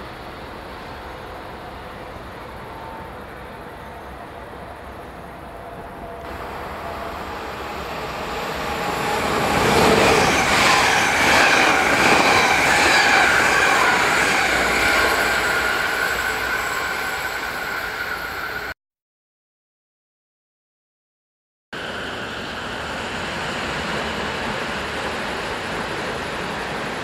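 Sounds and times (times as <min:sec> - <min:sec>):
wheels rumbling on rail: 0:00.0 - 0:18.7, 0:21.8 - 0:27.0
high steady train whine: 0:00.0 - 0:18.8, 0:21.8 - 0:27.0
train passing: 0:00.0 - 0:18.8, 0:21.8 - 0:27.0.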